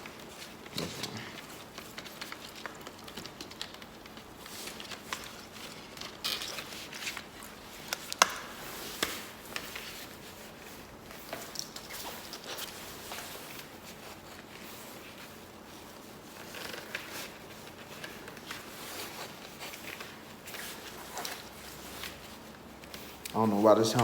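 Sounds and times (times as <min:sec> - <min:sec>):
fabric rustling: 0:00.0 - 0:24.0
helmet clicks and scrapes: 0:00.0 - 0:24.0.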